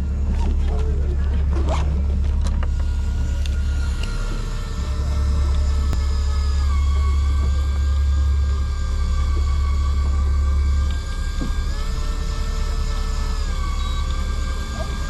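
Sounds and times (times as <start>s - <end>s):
boat engines rumbling: 0.0s - 15.0s
high whine: 0.0s - 15.0s.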